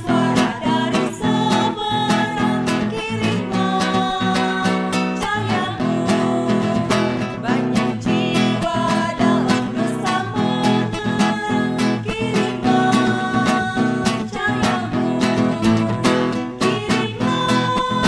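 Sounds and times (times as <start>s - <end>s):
strummed acoustic guitar: 0.0s - 18.0s
women singing a hymn in unison: 0.0s - 18.0s.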